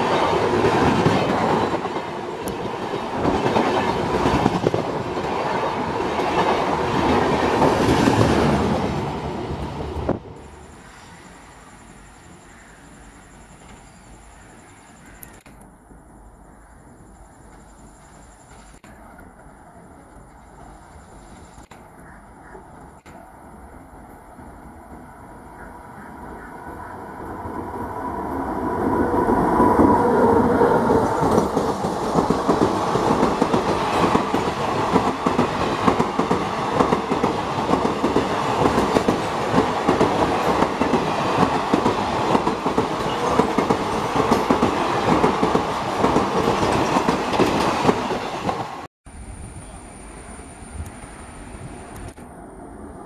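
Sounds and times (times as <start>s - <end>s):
passenger train passing at speed: 0.0s - 53.0s.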